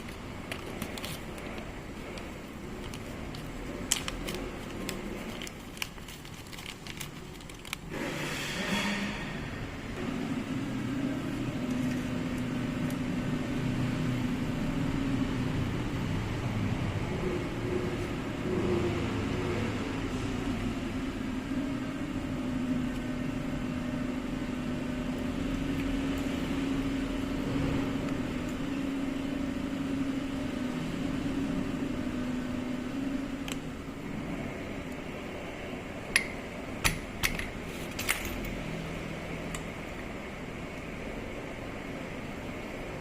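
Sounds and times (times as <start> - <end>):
machine hum: 0.0 - 43.0.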